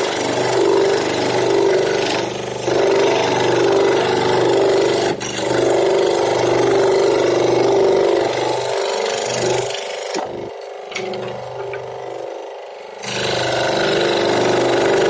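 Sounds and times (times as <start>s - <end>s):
power tool grinding wood: 0.0s - 15.0s.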